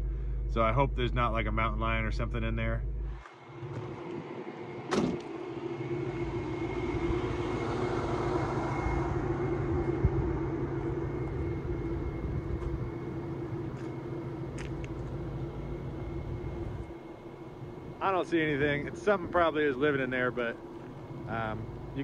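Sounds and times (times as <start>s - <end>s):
car engine idling: 0.0s - 22.0s
thin steady whine: 0.0s - 22.0s.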